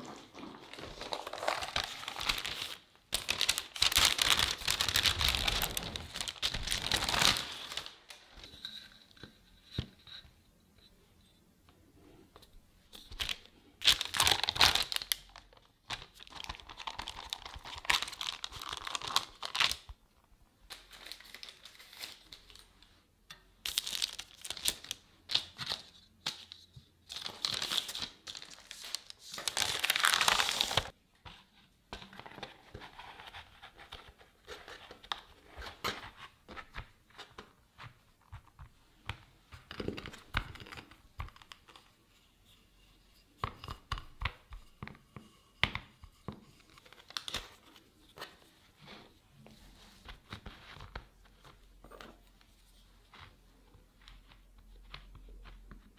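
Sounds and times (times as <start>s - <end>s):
parchment paper crinkling: 0.0s - 8.5s, 13.0s - 20.0s, 20.7s - 22.8s, 23.6s - 41.9s, 46.2s - 55.9s.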